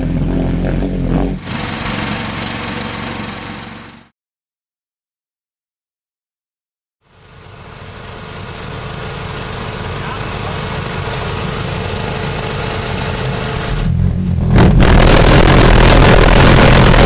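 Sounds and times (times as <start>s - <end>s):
mechanical drone: 0.0s - 4.1s, 7.1s - 17.0s
pulsejet engine roaring: 0.0s - 4.1s, 7.4s - 17.0s.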